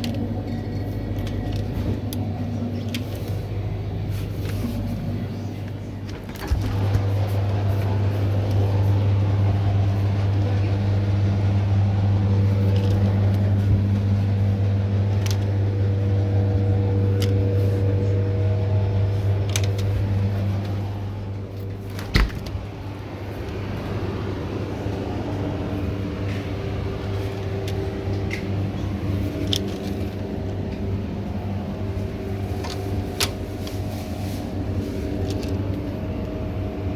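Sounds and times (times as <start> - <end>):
low machine hum: 0.0 - 36.9.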